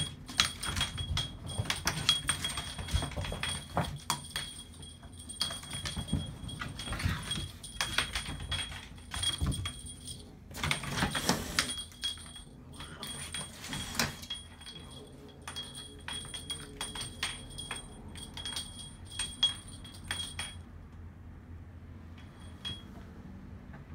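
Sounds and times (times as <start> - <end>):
small bell jingling: 0.0 - 20.7, 22.2 - 22.9.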